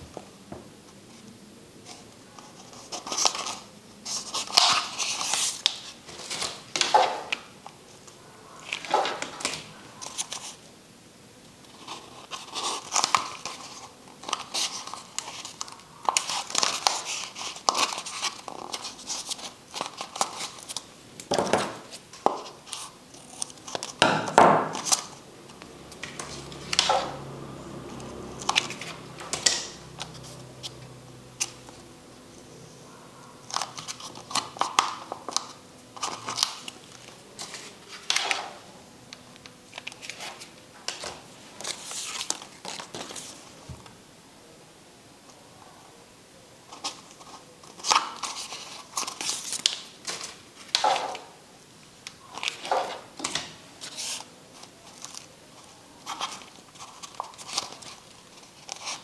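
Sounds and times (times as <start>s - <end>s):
paper crinkling and rustling: 1.8s - 10.6s, 11.6s - 31.8s, 33.4s - 38.6s, 39.4s - 43.8s, 46.7s - 51.3s, 52.1s - 59.0s.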